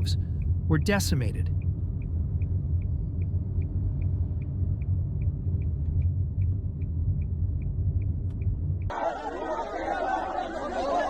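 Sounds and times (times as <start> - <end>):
low rumble: 0.0 - 8.9.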